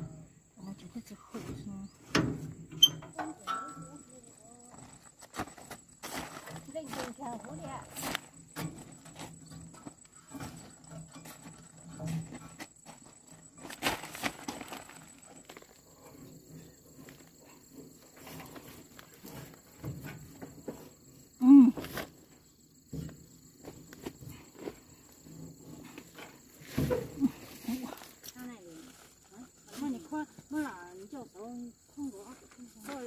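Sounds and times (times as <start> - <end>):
insect whine: 0.0 - 33.0
faint rustles and knocks: 1.2 - 33.0.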